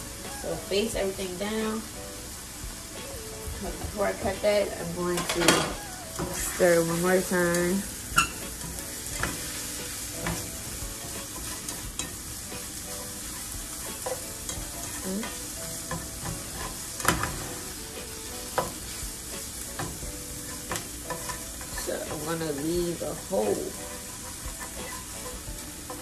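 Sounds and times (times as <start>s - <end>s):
food sizzling in a frying pan: 0.0s - 26.0s
spatula scraping a pan: 3.6s - 26.0s.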